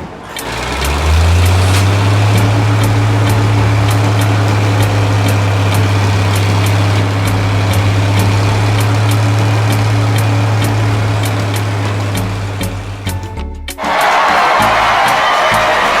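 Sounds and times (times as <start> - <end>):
heavy vehicle engine idling: 0.0 - 16.0
light ticking: 0.3 - 13.4.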